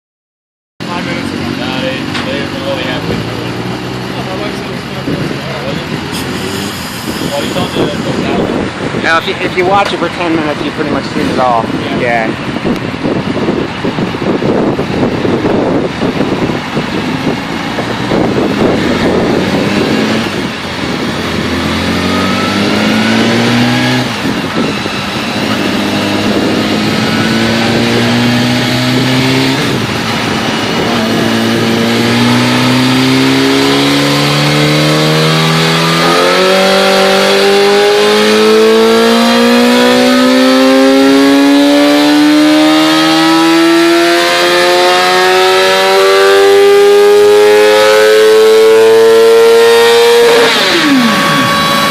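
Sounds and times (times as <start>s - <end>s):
motorcycle engine revving: 0.8s - 51.9s.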